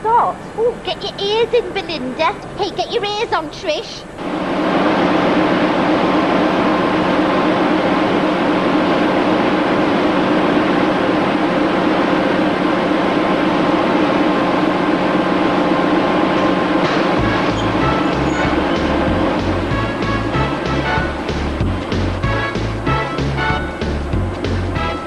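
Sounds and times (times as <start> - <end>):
printing press running: 1.2 - 25.0.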